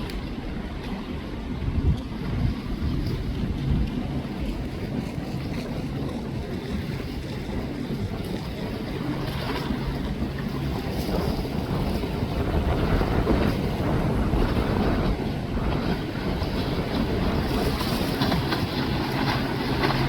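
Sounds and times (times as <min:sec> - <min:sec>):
river water: 0:00.0 - 0:20.0
wind buffeting the microphone: 0:00.0 - 0:20.0.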